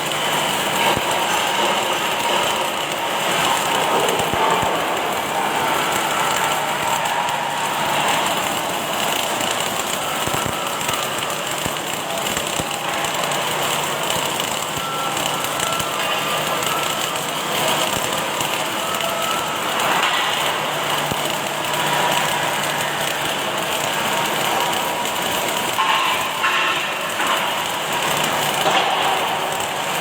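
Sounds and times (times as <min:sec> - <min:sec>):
welding machine crackling hiss: 0:00.0 - 0:30.0.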